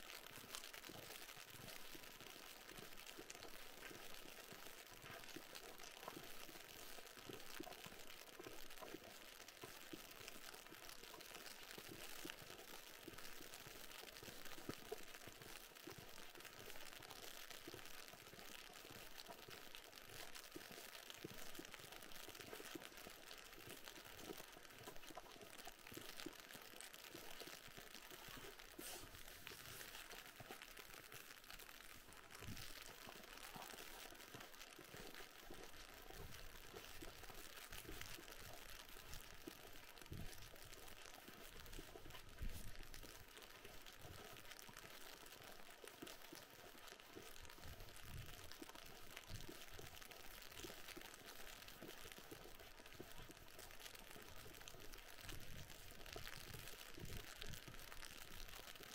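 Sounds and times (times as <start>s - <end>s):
faint steady hiss: 0.0s - 58.9s.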